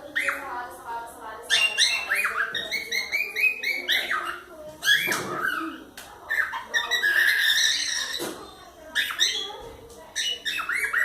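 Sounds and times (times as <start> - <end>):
cockatiels chirping: 0.1 - 0.6, 1.4 - 11.0.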